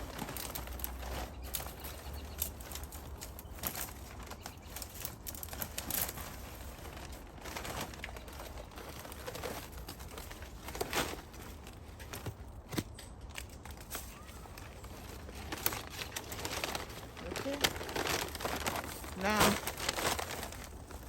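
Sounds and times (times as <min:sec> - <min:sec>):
rustling and crinkling debris: 0:00.0 - 0:21.0.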